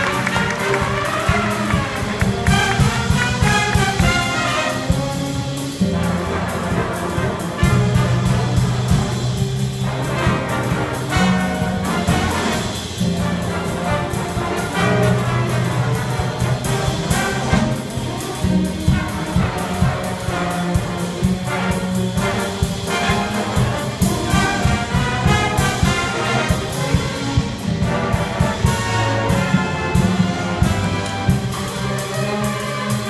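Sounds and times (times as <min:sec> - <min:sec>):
big band jazz: 0:00.0 - 0:33.0
trumpets and trombones: 0:00.0 - 0:33.0.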